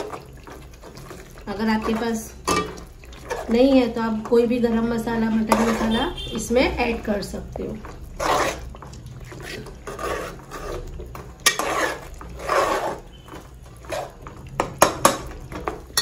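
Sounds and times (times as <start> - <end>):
spoon scraping in cooking pot: 0.0 - 7.0, 7.8 - 16.0.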